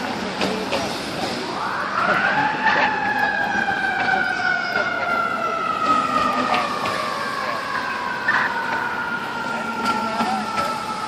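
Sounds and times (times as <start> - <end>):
fire truck siren: 1.3 - 11.0.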